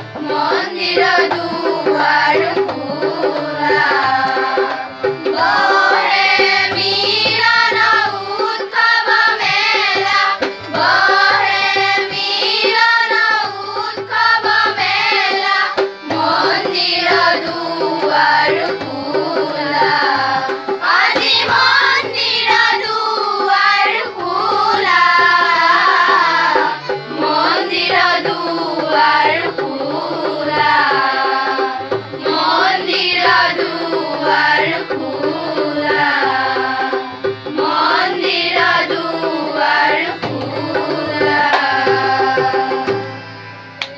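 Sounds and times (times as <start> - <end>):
children's chorus singing: 0.0 - 43.9.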